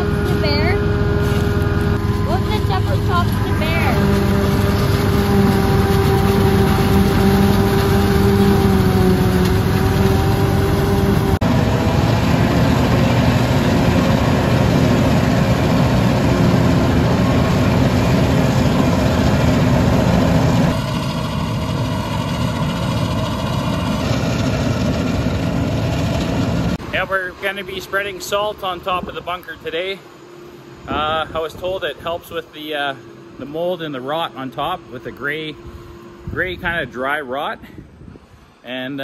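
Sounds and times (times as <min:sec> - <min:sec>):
steady pitched whine: 0:00.0 - 0:37.6
heavy engine rumble: 0:00.0 - 0:38.6.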